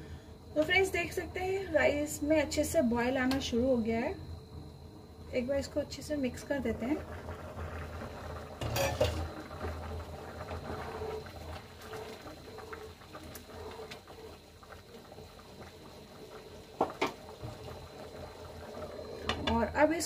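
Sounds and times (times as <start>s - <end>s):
rice boiling and bubbling: 0.0s - 20.0s.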